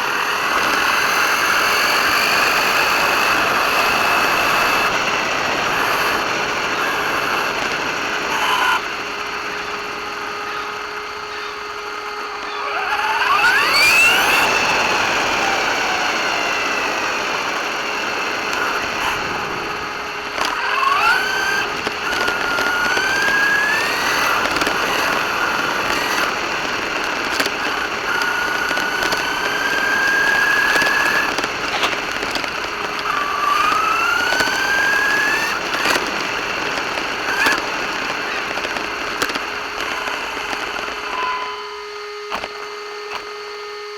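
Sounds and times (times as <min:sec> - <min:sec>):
rc car motor whining: 0:00.0 - 0:43.9.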